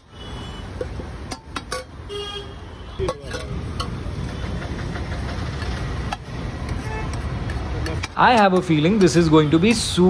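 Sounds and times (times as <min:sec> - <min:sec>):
street noise rumble: 0:00.0 - 0:10.0.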